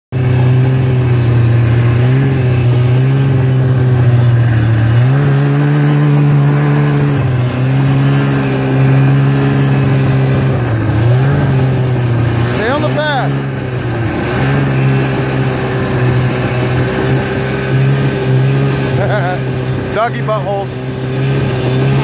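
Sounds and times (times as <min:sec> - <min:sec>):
snowmobile engine running: 0:00.1 - 0:22.0.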